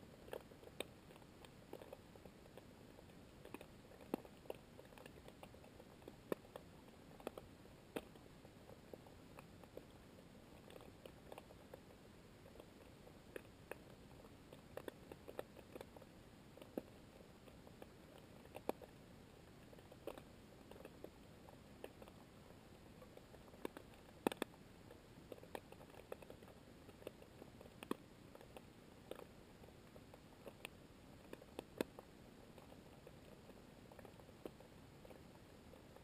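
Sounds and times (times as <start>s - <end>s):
sharp underwater clicks and crackles: 0.1s - 19.0s, 19.6s - 36.0s.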